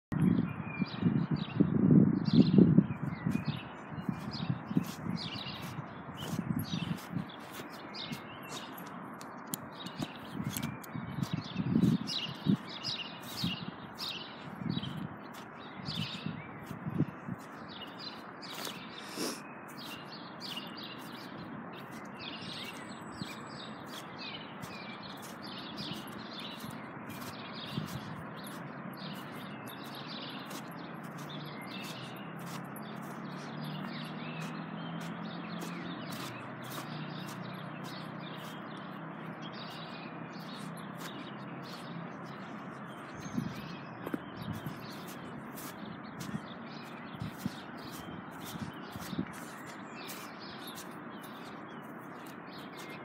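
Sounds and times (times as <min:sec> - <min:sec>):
small birds chirping: 0:00.2 - 0:53.0
steady outdoor hum: 0:02.7 - 0:53.0.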